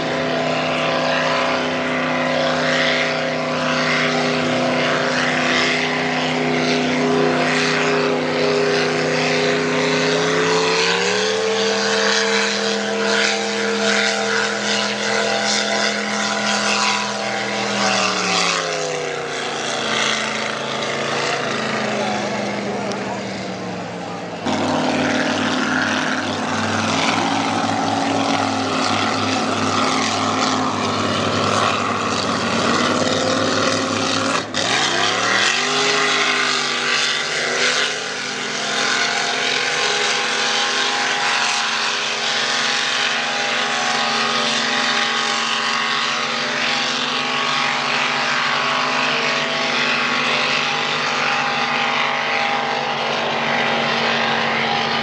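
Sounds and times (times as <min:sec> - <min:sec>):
racing boat engines at full throttle: 0:00.0 - 0:55.0.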